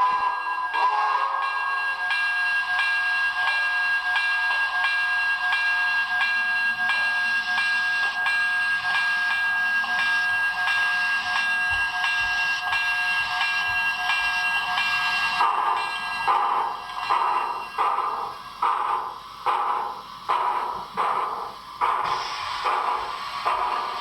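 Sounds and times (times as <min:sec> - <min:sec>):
model steam locomotive chuffs: 0:00.0 - 0:24.0.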